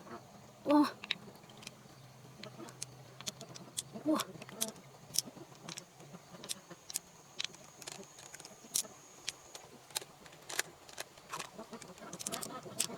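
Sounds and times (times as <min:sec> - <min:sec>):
hard objects clicking and tapping: 0:02.4 - 0:12.9.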